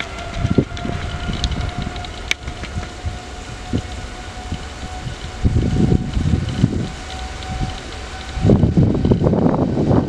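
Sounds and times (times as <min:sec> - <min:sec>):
jet engines whining: 0:00.0 - 0:10.0
wind on microphone: 0:00.0 - 0:10.0.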